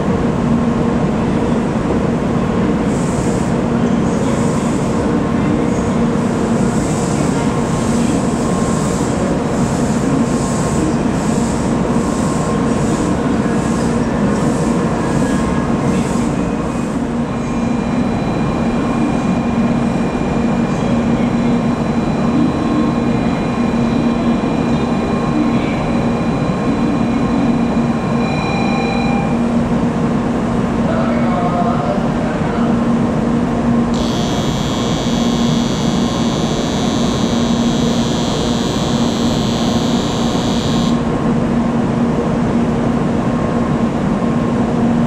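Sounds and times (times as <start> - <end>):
electrical hum with high whine: 0.0 - 45.0.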